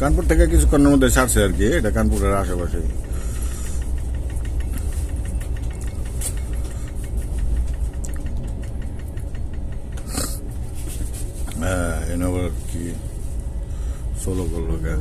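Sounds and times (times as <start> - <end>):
carriage clatter and rattle: 0.0 - 12.7
train coach rumble: 0.0 - 15.0.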